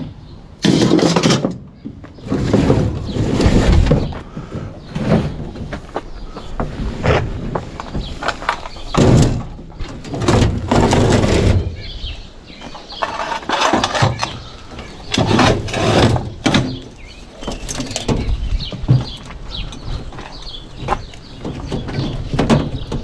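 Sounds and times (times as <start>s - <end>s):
scrap clattering and scraping: 0.6s - 23.0s.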